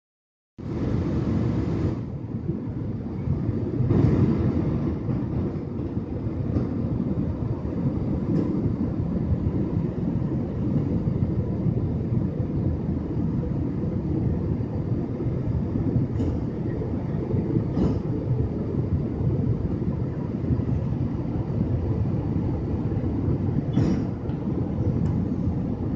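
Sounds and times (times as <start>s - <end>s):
airliner cabin rumble: 0.6s - 25.9s.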